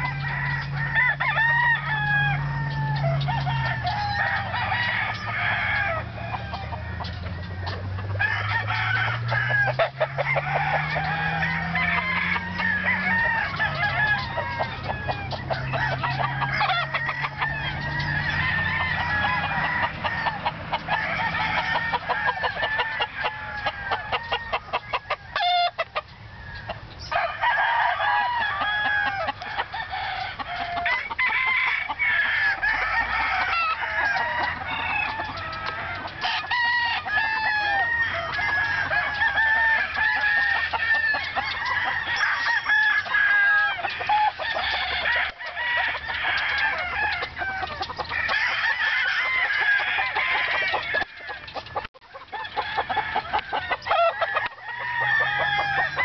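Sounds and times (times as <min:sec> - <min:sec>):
roosters crowing and clucking: 0:00.0 - 0:56.0.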